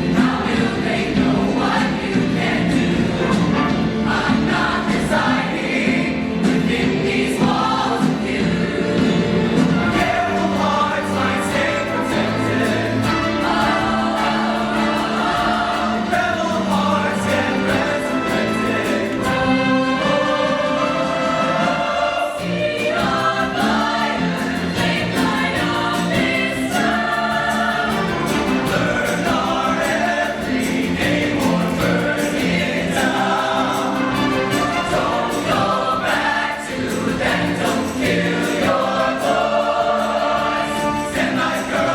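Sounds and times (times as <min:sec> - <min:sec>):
choir singing in parts: 0:00.0 - 0:41.9
live instrumental backing: 0:00.0 - 0:41.9.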